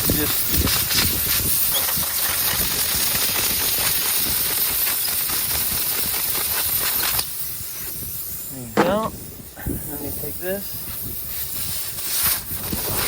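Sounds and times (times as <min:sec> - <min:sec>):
air hissing from a tire: 0:00.0 - 0:13.0.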